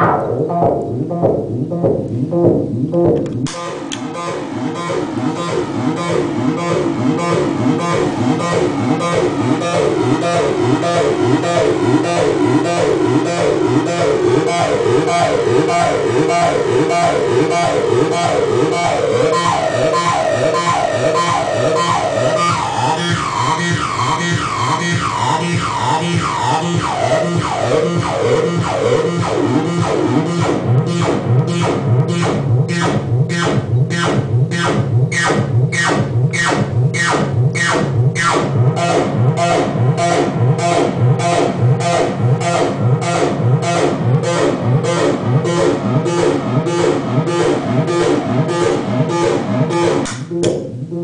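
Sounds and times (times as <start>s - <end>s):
acid bass synthesizer line: 0.0s - 51.0s.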